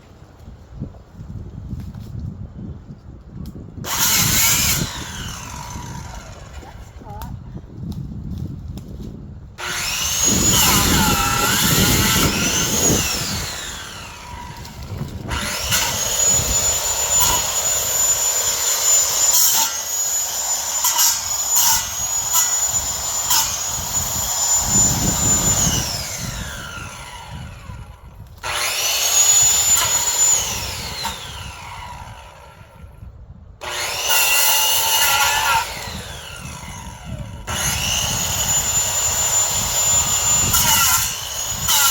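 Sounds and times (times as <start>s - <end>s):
power saw cutting branches: 3.8s - 7.4s, 8.8s - 33.0s, 33.6s - 41.9s.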